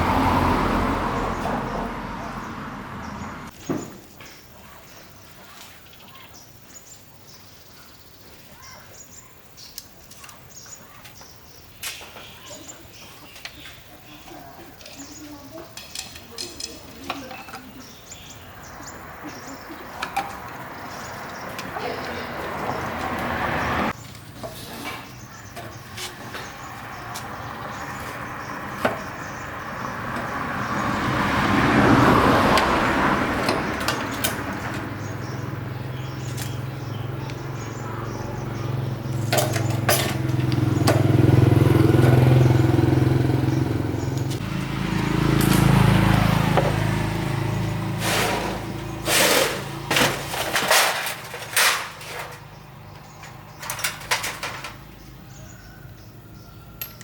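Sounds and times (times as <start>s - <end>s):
vehicles passing by: 0.0s - 5.4s, 8.4s - 57.0s.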